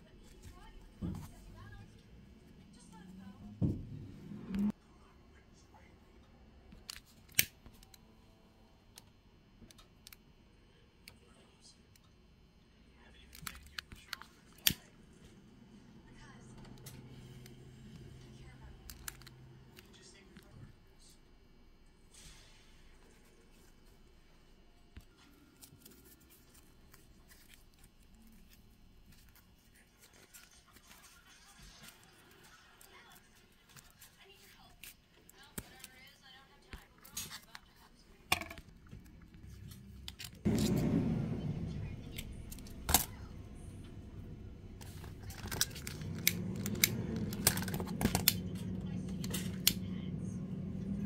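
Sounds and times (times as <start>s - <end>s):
steady low hum: 0.0s - 29.9s, 34.5s - 51.0s.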